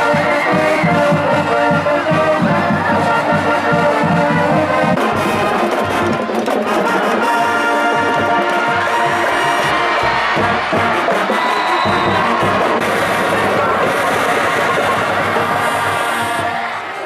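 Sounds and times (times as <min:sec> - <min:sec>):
brass music: 0:00.0 - 0:17.0.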